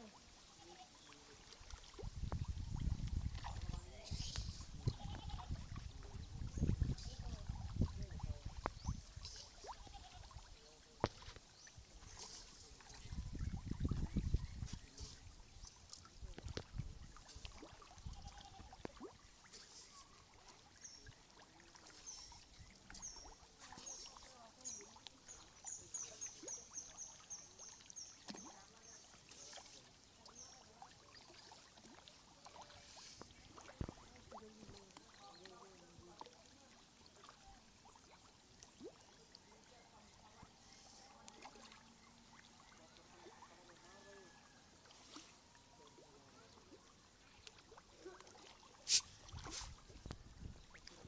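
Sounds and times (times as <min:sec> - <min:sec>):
faint water at surface: 0:00.0 - 0:51.0.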